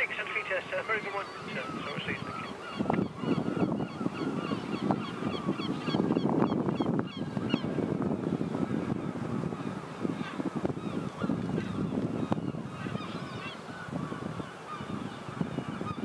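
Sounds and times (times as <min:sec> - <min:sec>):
chatter of bird calls: 0:00.0 - 0:07.8, 0:08.6 - 0:16.0.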